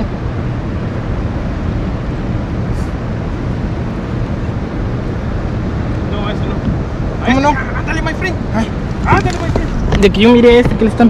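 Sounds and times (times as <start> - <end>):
wind blowing across microphone: 0.0 - 11.0.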